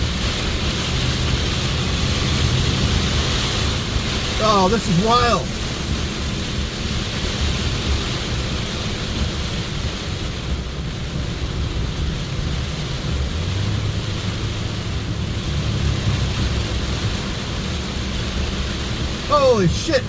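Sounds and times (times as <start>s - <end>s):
car engine and tyres rumbling: 0.0s - 20.0s
rain and water hissing on road: 0.0s - 20.0s.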